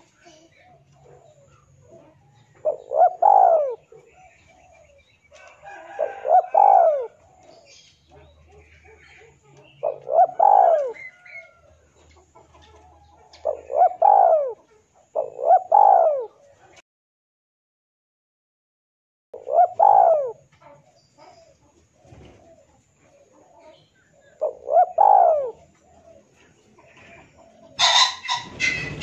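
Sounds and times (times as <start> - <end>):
dove cooing: 0.0 - 16.8, 19.4 - 29.0.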